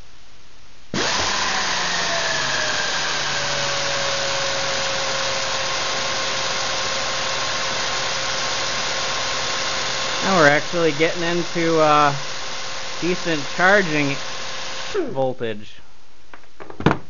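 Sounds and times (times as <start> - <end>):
air drill running with whine: 0.9 - 15.2.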